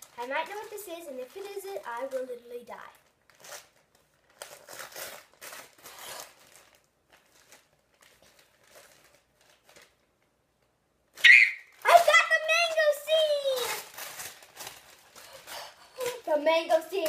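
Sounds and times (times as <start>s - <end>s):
packaging crinkling and tearing: 0.0s - 10.4s, 11.1s - 17.0s.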